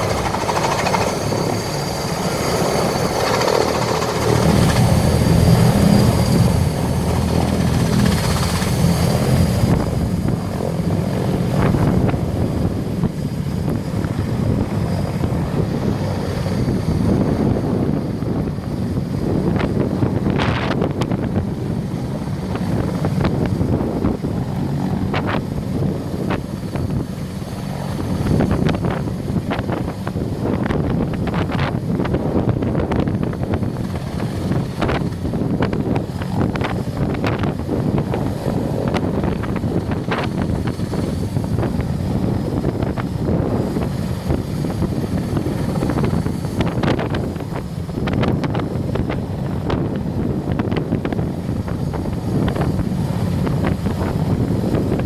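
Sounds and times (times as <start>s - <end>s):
faint turbine whine: 0.0s - 55.0s
helicopter rotor thrum: 0.0s - 55.0s
rotor wash buffeting microphone: 0.0s - 55.0s.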